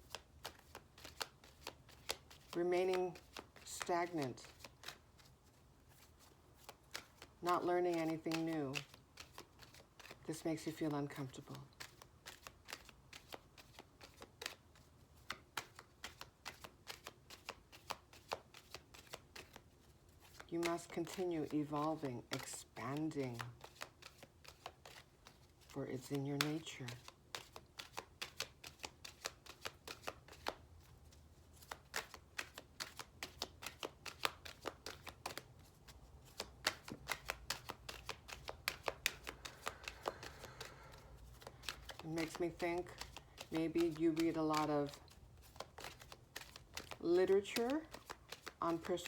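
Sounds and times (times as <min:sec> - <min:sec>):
cards being shuffled: 0:00.0 - 0:49.0.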